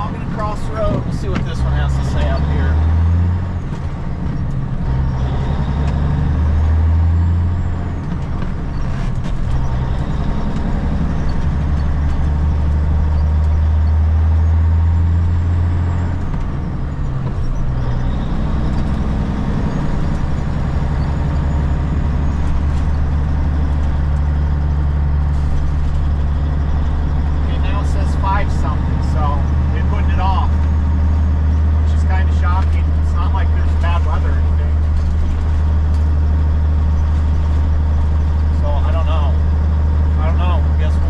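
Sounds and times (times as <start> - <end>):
truck diesel engine drone: 0.0 - 41.0.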